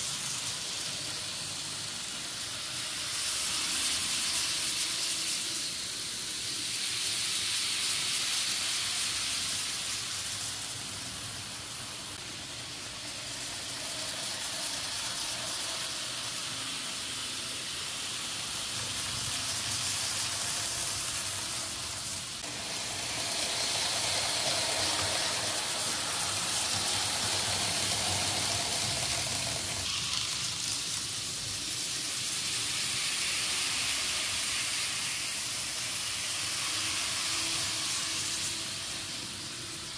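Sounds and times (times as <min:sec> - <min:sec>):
model trains running on track: 0:00.0 - 0:39.9.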